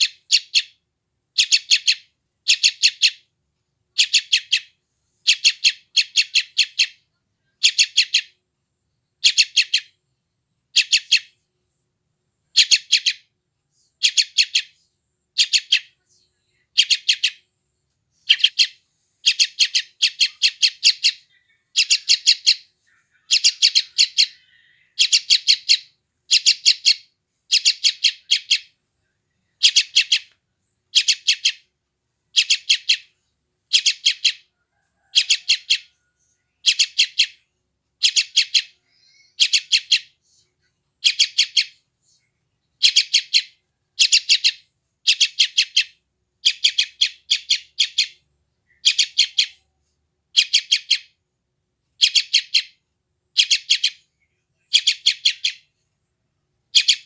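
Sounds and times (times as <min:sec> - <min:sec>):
bird chick chirping: 0:00.0 - 0:00.8, 0:01.4 - 0:03.3, 0:04.0 - 0:08.4, 0:09.2 - 0:10.0, 0:10.7 - 0:11.4, 0:12.5 - 0:17.5, 0:18.2 - 0:28.8, 0:29.5 - 0:31.7, 0:32.3 - 0:33.1, 0:33.7 - 0:40.2, 0:41.0 - 0:41.8, 0:42.7 - 0:51.2, 0:52.0 - 0:55.8, 0:56.7 - 0:57.0.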